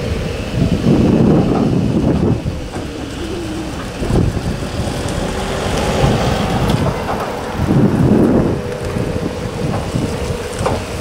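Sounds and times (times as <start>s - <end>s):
distant vehicle engine: 0.0s - 11.0s
wind rumbling on microphone: 0.0s - 11.0s.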